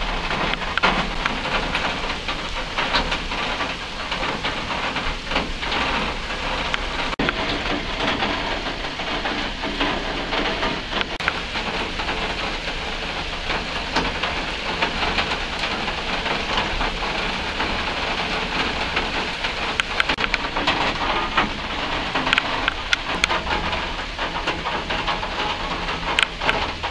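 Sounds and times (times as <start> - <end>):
water drips: 0.0 - 20.4, 21.5 - 26.9
steady rain falling: 0.0 - 26.9.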